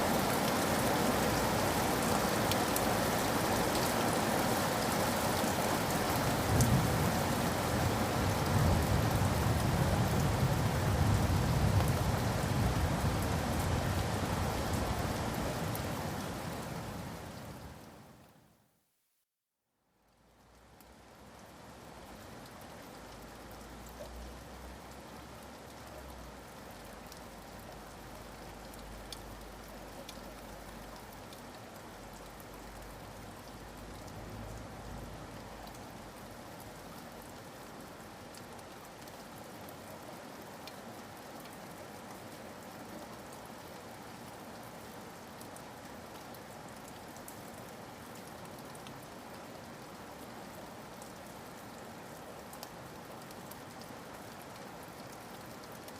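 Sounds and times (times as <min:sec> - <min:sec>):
steady rain: 0:00.0 - 0:18.7, 0:19.8 - 0:55.9.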